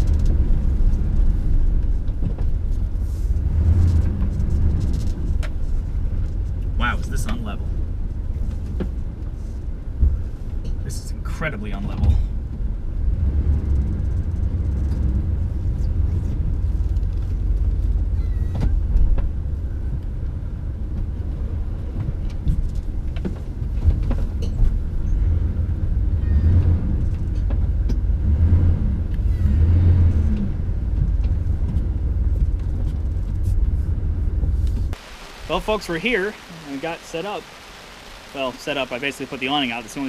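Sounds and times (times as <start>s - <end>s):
engine and road rumble: 0.0s - 40.0s.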